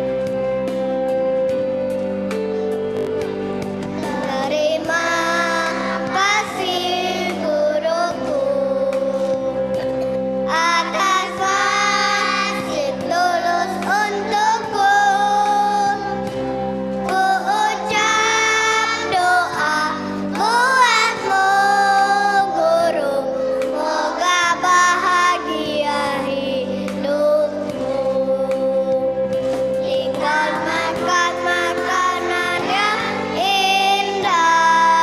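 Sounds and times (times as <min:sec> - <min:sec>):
instrumental accompaniment: 0:00.0 - 0:35.0
children's choir singing: 0:03.9 - 0:09.5, 0:10.5 - 0:16.2, 0:17.0 - 0:29.2, 0:29.8 - 0:35.0.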